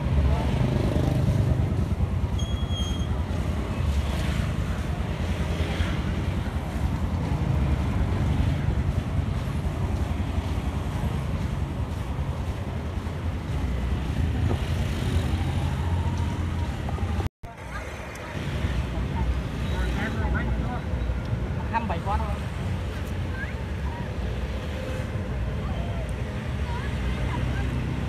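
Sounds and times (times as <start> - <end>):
outdoor street noise: 0.0 - 28.0.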